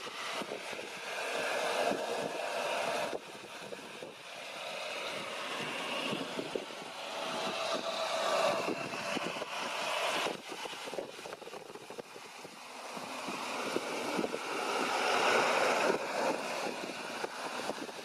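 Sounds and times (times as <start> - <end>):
jet engines running: 0.0 - 18.0
wind buffeting microphone: 0.0 - 18.0.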